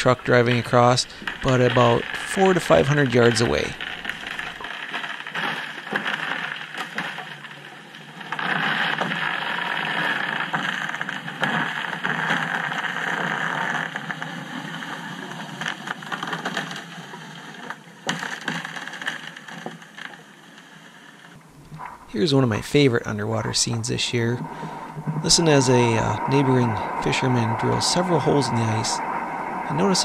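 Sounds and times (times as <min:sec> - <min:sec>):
truck on ice heard underwater: 0:00.0 - 0:30.0.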